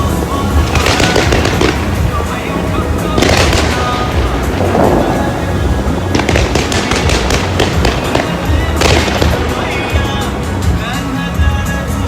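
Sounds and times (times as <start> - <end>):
fireworks popping and crackling: 0.0 - 12.0
loud music with heavy bass: 0.0 - 12.0.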